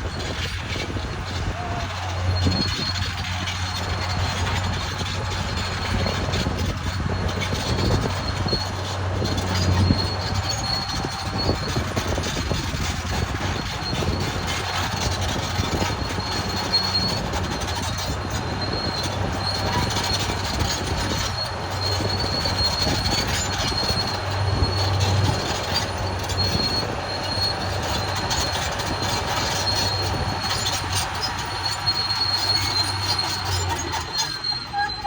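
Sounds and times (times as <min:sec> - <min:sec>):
bulldozer diesel engine running: 0:00.0 - 0:35.0
metallic squeal of steel tracks: 0:00.1 - 0:35.0.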